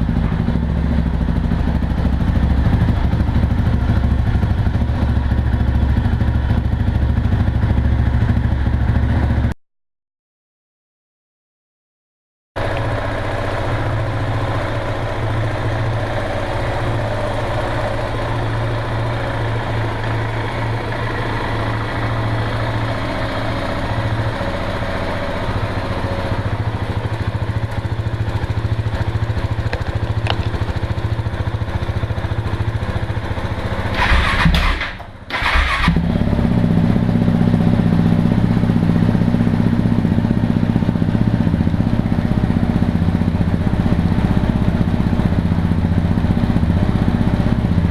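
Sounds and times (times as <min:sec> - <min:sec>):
motorcycle engine idling: 0:00.0 - 0:09.6, 0:12.6 - 0:47.9.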